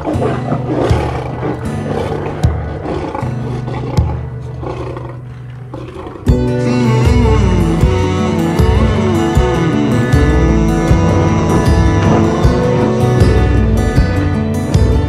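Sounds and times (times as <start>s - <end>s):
background music with bassline: 0.0s - 15.0s
lion roaring and growling: 0.0s - 15.0s.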